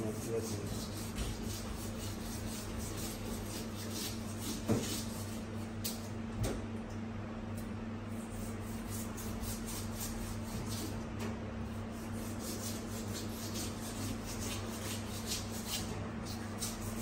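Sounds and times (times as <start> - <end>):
knife scraping fish scales: 0.0 - 6.1, 8.2 - 11.0, 11.9 - 17.0
low electrical hum: 0.0 - 17.0.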